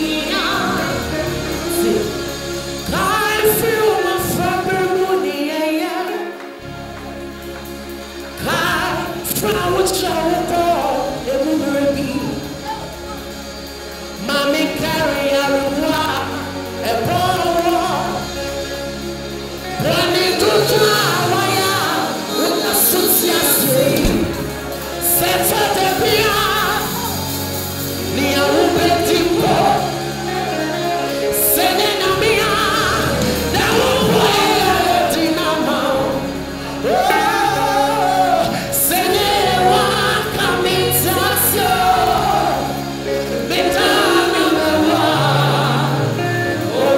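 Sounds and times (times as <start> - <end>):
instrumental backing with bass line: 0.0 - 5.4, 6.4 - 46.9
choir voices: 0.0 - 46.9.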